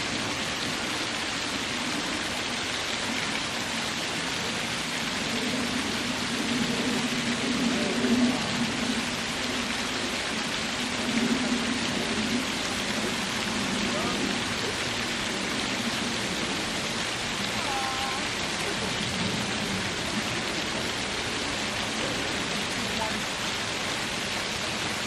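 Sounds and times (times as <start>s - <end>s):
waterfall splashing over rocks: 0.0s - 25.0s.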